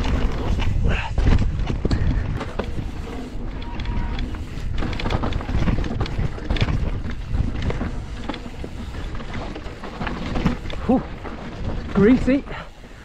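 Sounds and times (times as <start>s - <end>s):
bike knocking and rattling over bumps: 0.0s - 13.0s
tyres rolling on dirt: 0.0s - 13.0s
wind buffeting microphone: 0.0s - 13.0s.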